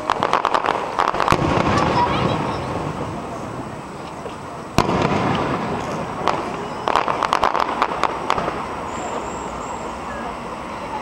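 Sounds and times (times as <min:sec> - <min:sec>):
fireworks bang: 0:00.0 - 0:09.3
fireworks crackling: 0:00.0 - 0:11.0.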